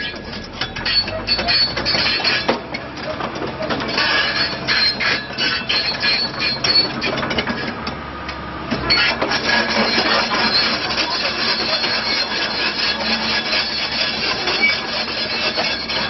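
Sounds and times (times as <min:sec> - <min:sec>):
crawler tracks clanking: 0:00.0 - 0:08.0, 0:08.7 - 0:16.0
diesel engine hum: 0:00.0 - 0:16.0.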